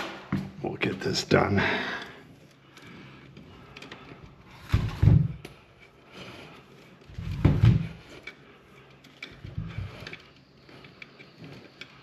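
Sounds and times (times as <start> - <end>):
wires rustling and scraping: 0.0 - 12.0.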